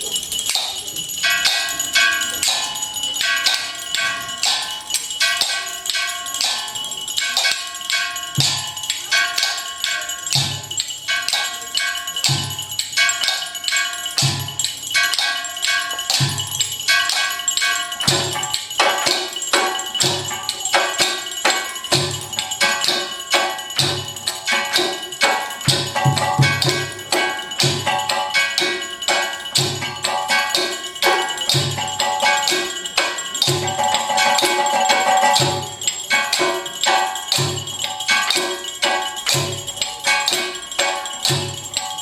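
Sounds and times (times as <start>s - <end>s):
live percussion music: 0.0s - 42.0s
ringing metallic tones: 0.0s - 42.0s.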